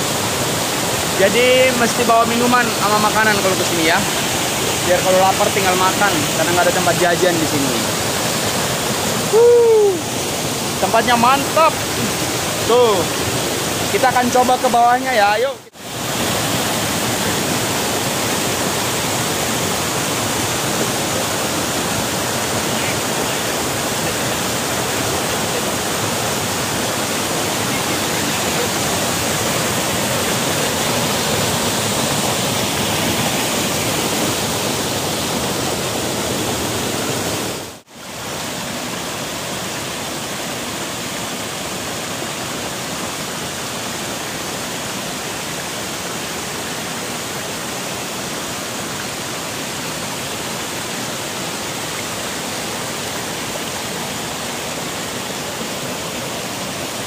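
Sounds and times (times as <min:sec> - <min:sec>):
waterfall rushing over boulders: 0:00.0 - 0:57.0.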